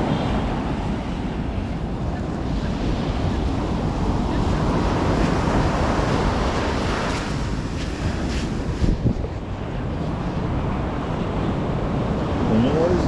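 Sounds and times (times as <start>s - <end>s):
surf washing onto shore: 0.0s - 13.0s
wind buffeting microphone: 0.0s - 13.0s.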